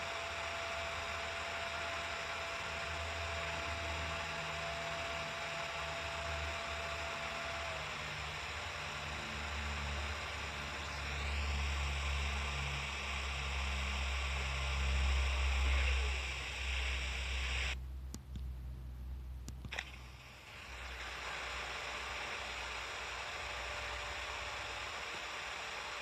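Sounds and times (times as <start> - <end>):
vacuum cleaner running: 0.0 - 17.8, 20.2 - 26.0.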